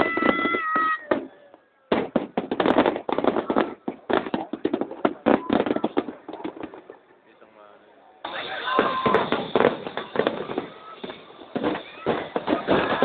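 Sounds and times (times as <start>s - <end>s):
fireworks crackling: 0.0s - 7.5s, 8.2s - 13.0s.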